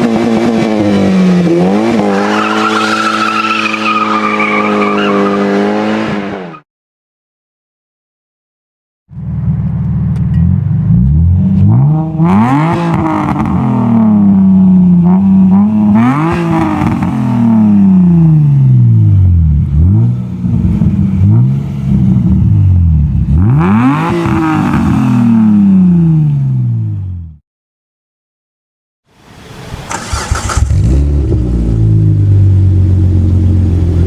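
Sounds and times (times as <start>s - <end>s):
car engine revving: 0.0s - 6.6s, 9.1s - 27.3s, 29.8s - 34.0s.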